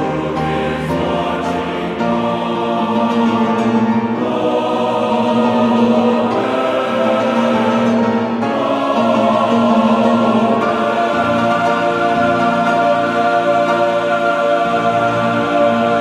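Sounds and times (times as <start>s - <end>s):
choir holding slow chords: 0.0s - 16.0s.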